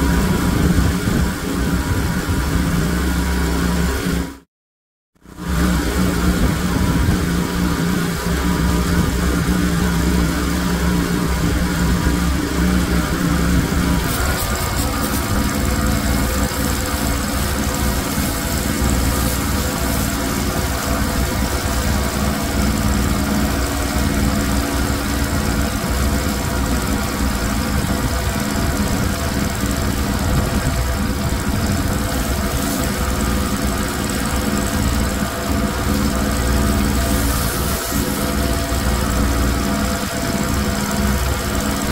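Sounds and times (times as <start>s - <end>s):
pressure washer running: 0.0s - 4.4s, 5.2s - 41.9s
high-pressure spray hissing: 5.6s - 41.4s.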